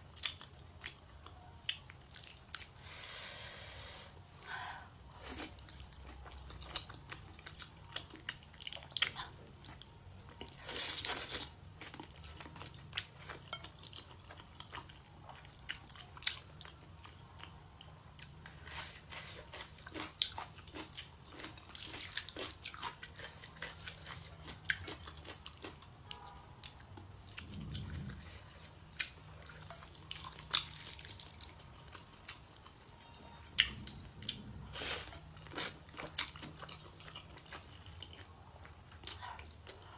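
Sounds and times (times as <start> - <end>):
close chewing and mouth smacks: 0.1 - 2.8, 5.1 - 39.9.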